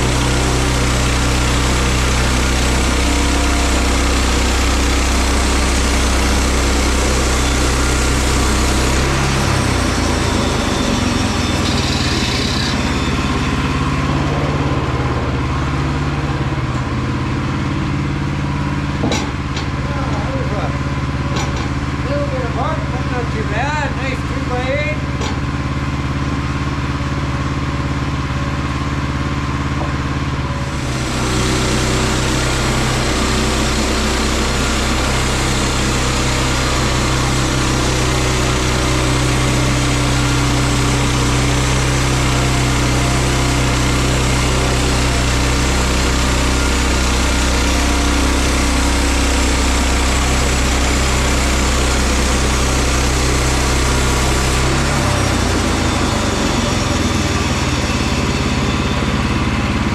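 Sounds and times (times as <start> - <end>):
band saw blade cutting log: 0.0 - 26.5, 29.6 - 59.9
small gas engine running: 0.0 - 59.9.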